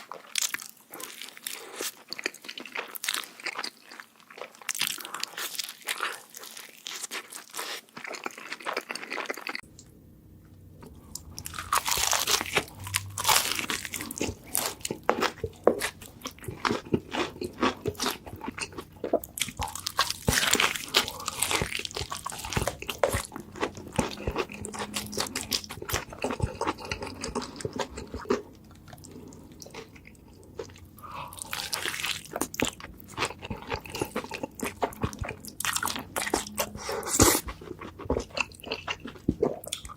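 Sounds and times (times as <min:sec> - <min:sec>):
burger chewing and crunching: 0:00.0 - 0:09.7, 0:10.9 - 0:39.9.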